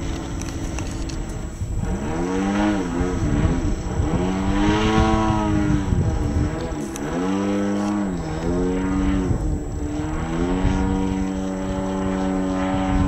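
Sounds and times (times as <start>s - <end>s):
model airplane engine and propeller: 0.0s - 13.0s.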